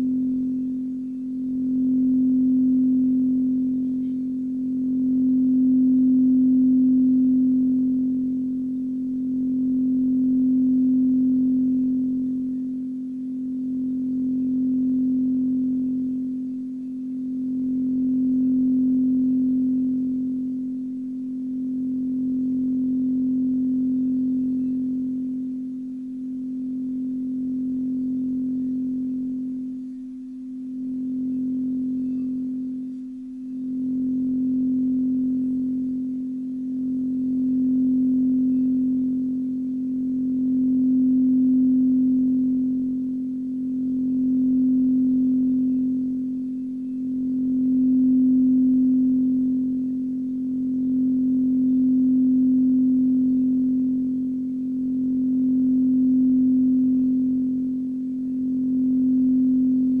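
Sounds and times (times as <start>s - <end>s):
singing bowl ringing tone: 0.0s - 60.0s.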